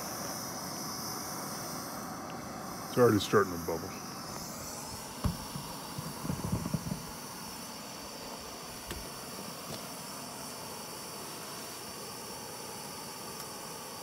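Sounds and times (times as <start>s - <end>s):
gas burner hissing: 0.0s - 14.0s.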